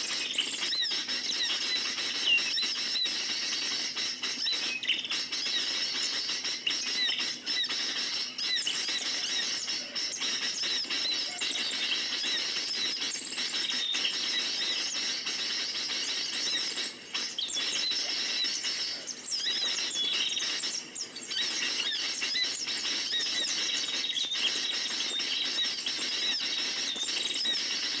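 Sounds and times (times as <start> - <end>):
flock of small birds chirping: 0.0 - 28.0.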